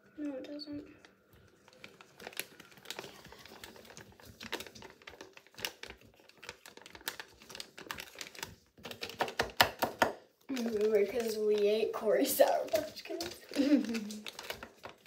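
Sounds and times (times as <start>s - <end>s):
plastic bag crinkling: 1.0s - 15.0s.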